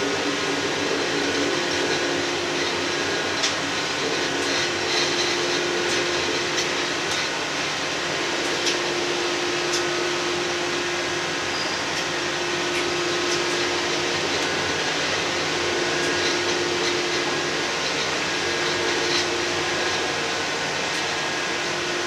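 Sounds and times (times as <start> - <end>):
railcar running drone: 0.0 - 22.0.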